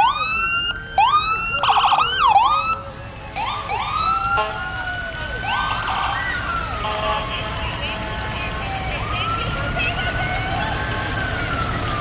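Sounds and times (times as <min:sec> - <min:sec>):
emergency vehicle sirens: 0:00.0 - 0:12.0.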